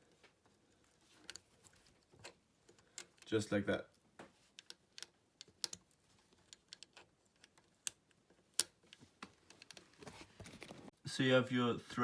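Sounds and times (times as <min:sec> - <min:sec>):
hands clicking and tapping machine parts: 0:00.0 - 0:10.2.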